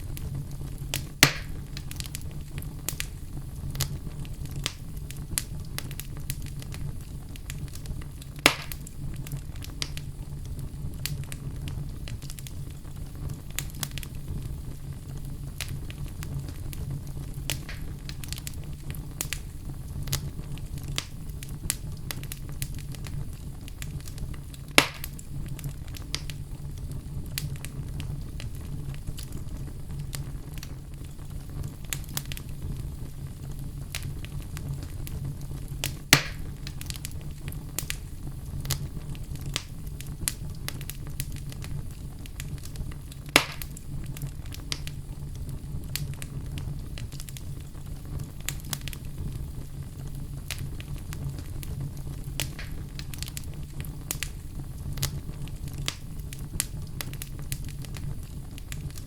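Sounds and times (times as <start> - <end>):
loud fire pops: 0.0 - 59.0
low fire rumble: 0.0 - 59.0
small fire crackles: 0.0 - 59.0.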